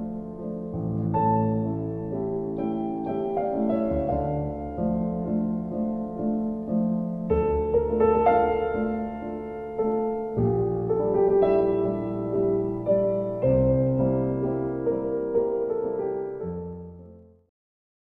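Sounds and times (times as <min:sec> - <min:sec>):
slow piano chords: 0:00.0 - 0:17.5.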